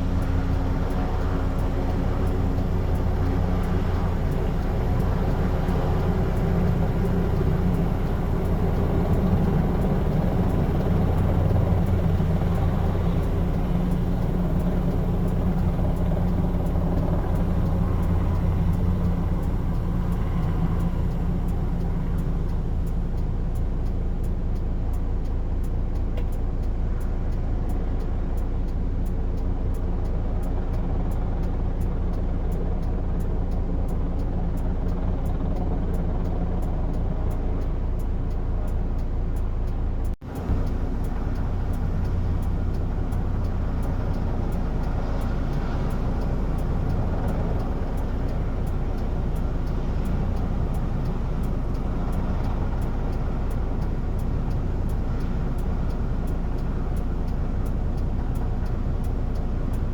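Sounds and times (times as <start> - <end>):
aircraft engine: 0.0 - 59.9.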